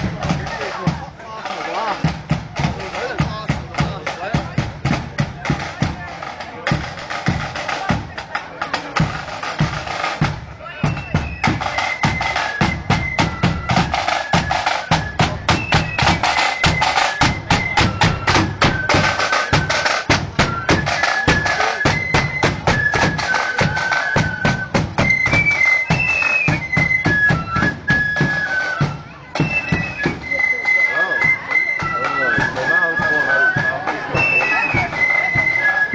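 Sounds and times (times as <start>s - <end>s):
flutes playing melody: 0.0s - 35.9s
snare and bass drums: 0.0s - 35.9s.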